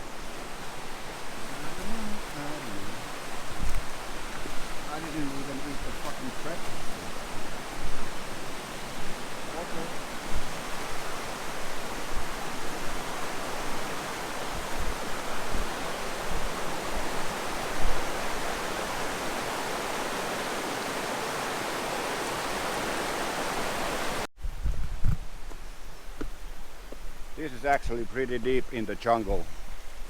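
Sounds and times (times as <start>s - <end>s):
waterfall roaring: 0.0s - 24.3s.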